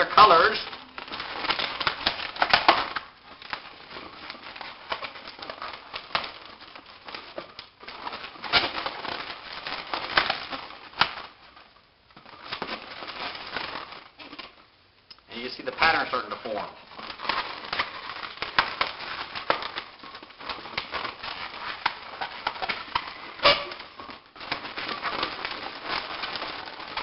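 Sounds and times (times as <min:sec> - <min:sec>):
balloons rubbing and squeaking: 0:00.0 - 0:27.0.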